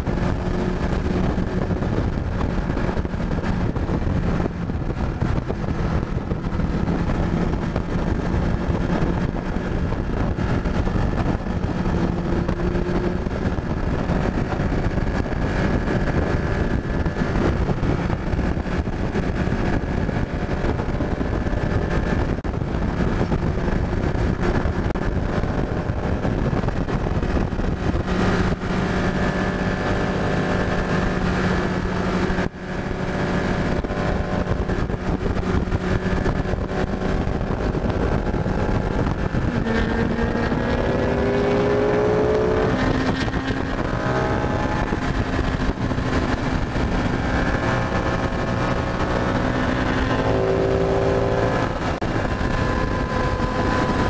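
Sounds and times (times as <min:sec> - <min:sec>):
motorcycle engine accelerating: 0:00.0 - 0:54.0
wind rushing: 0:00.0 - 0:54.0.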